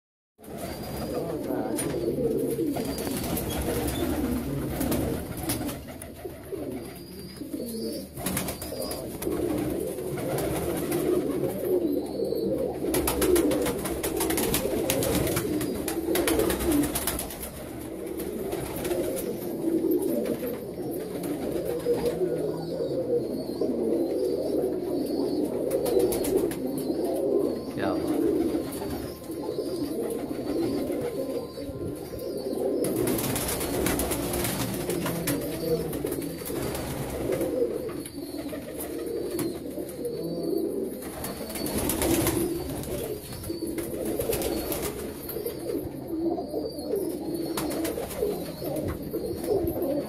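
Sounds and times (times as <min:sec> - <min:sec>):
pigeons cooing: 0:00.4 - 0:50.0.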